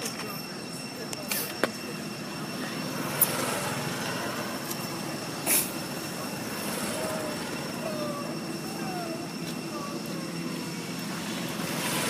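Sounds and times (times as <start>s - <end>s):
faint high whine: 0.0s - 12.0s
outdoor background rumble: 0.0s - 12.0s.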